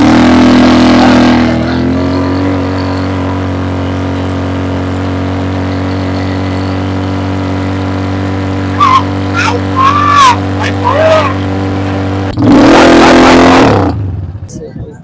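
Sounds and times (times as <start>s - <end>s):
beach bike engine running: 0.0s - 15.0s.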